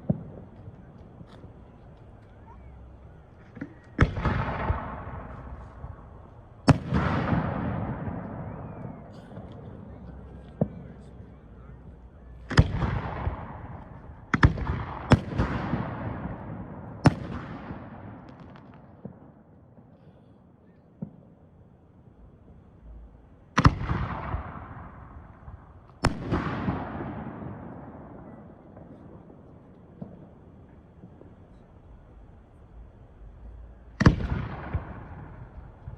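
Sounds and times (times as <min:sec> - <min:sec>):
fireworks bursting with echo: 0:00.0 - 0:22.8, 0:23.4 - 0:35.9.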